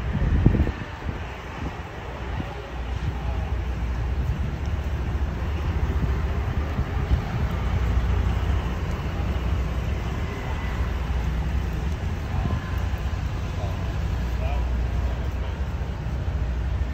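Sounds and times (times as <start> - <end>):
heavy vehicle engine rumble: 0.0 - 16.9
road noise: 0.0 - 16.9.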